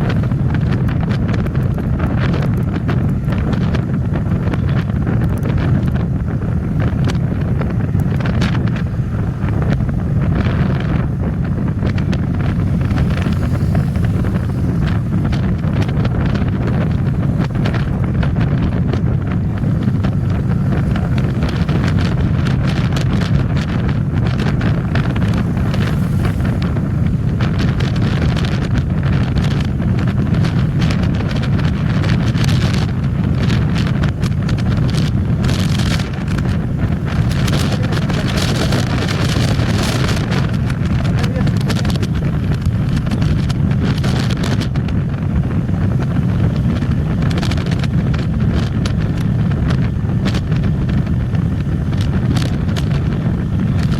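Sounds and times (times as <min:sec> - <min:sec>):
motorcycle engine: 0:00.0 - 0:53.9
road noise: 0:00.0 - 0:53.9
wind buffeting microphone: 0:00.0 - 0:53.9
wind crackles on microphone: 0:00.0 - 0:53.9.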